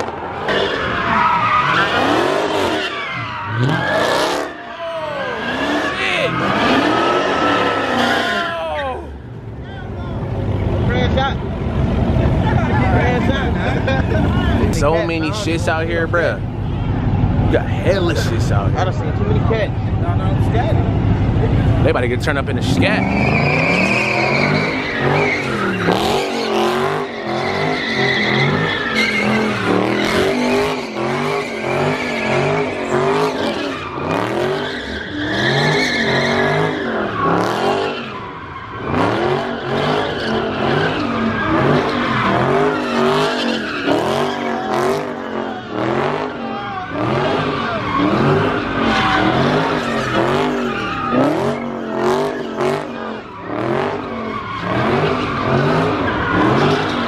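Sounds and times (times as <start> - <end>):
car engine revving: 0.0 - 57.0
tires squealing on pavement: 0.0 - 57.0.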